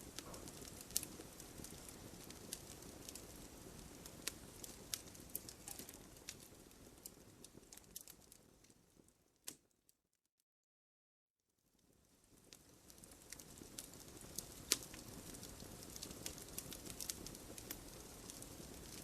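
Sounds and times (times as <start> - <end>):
campfire crackling and popping: 0.0 - 9.7, 11.8 - 19.0.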